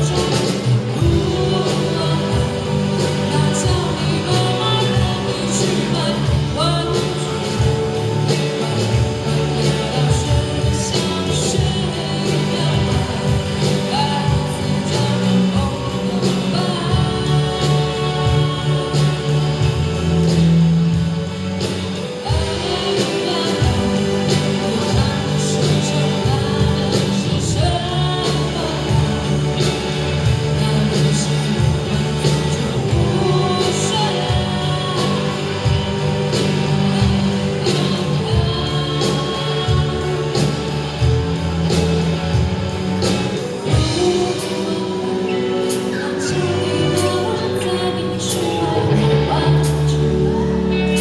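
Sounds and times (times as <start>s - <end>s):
person singing: 0.0s - 51.0s
rock band playing live: 0.0s - 51.0s.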